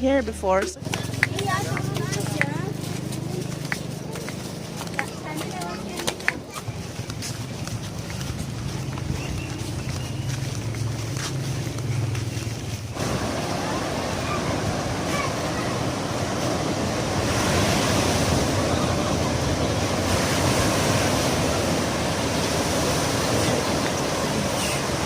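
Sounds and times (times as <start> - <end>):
vehicle engine hum: 0.0 - 25.0
surf washing on beach: 0.8 - 25.0.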